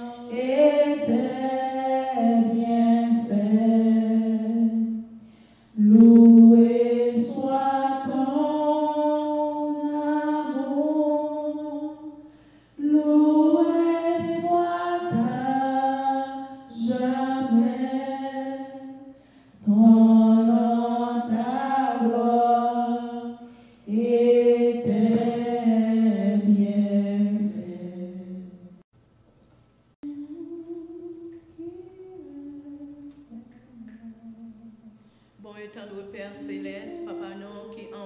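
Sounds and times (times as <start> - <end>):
woman singing a hymn unaccompanied: 0.0 - 28.6, 30.0 - 38.0.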